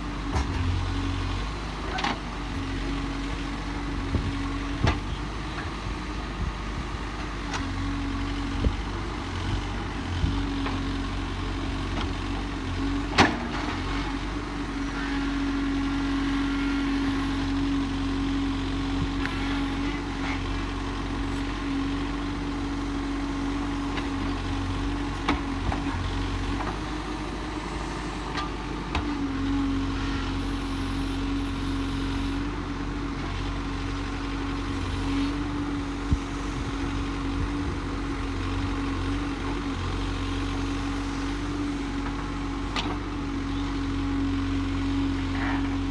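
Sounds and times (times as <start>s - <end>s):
diesel engine humming: 0.0s - 45.8s.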